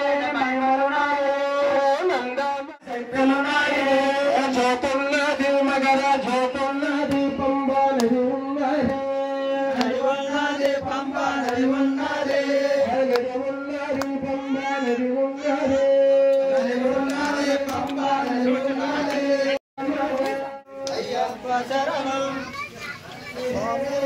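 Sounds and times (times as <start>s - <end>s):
chant-like singing: 0.0s - 22.6s, 23.3s - 24.0s.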